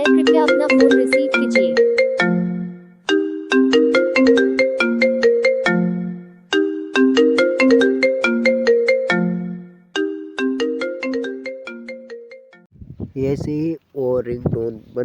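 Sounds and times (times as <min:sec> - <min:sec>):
mobile phone ringtone melody: 0:00.0 - 0:12.7.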